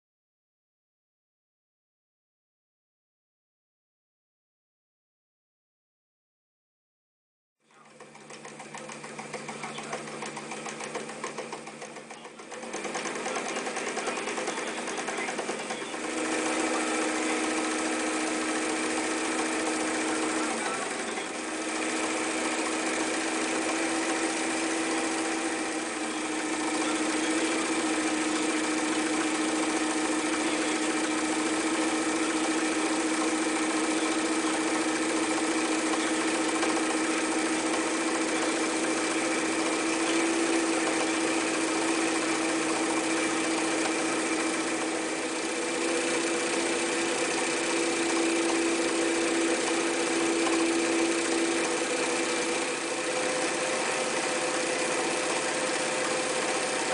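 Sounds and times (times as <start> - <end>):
sewing machine whirring: 7.7 - 56.9.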